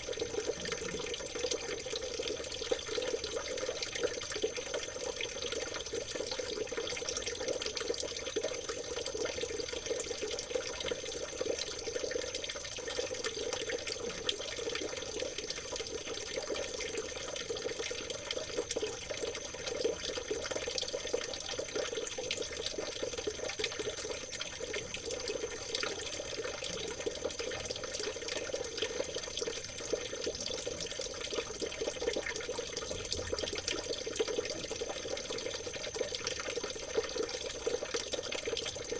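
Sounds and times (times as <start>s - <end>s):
stream water babbling over stones: 0.0s - 38.9s
thin steady high tone: 0.0s - 38.9s.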